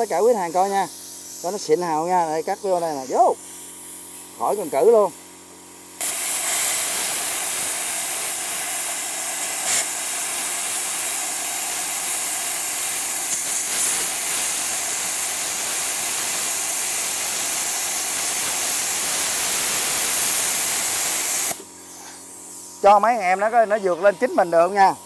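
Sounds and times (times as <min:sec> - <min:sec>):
plasma cutter hissing: 0:00.0 - 0:25.0.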